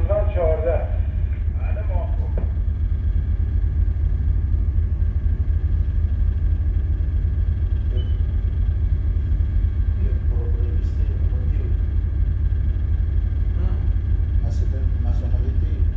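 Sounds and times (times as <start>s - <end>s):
faint steady hums: 0.0s - 15.9s
ship engine rumble: 0.0s - 15.9s.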